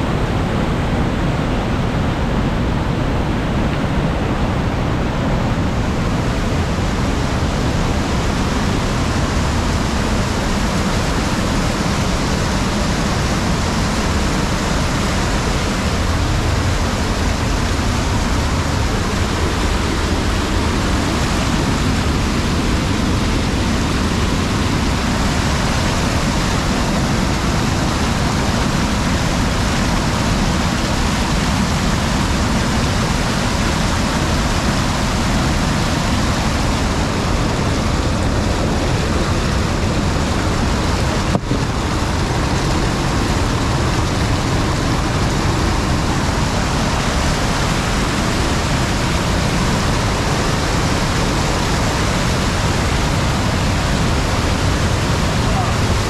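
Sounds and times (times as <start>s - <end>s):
mountain stream rushing: 0.0s - 56.0s.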